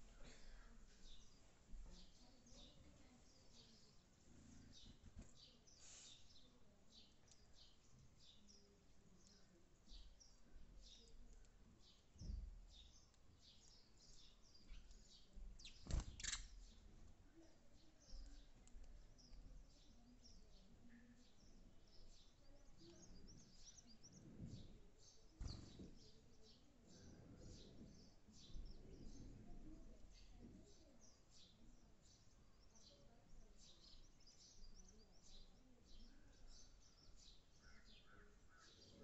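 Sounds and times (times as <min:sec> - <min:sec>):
sparrows chirping: 0:00.0 - 0:39.0.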